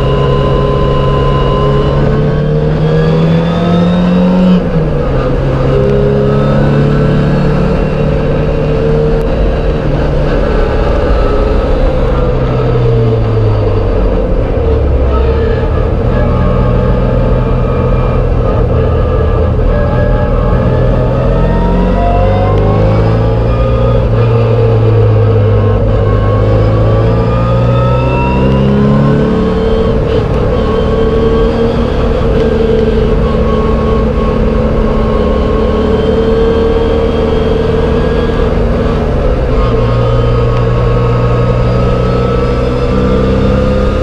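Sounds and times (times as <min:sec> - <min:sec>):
race car engine revving: 0:00.0 - 0:44.0.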